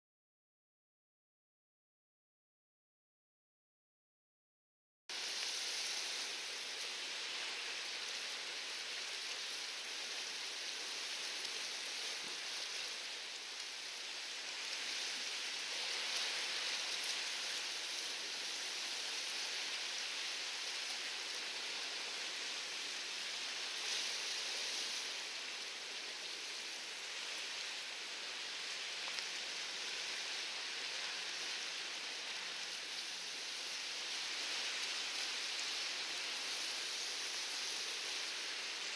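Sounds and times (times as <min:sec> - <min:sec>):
light rain hissing: 0:05.1 - 0:38.9.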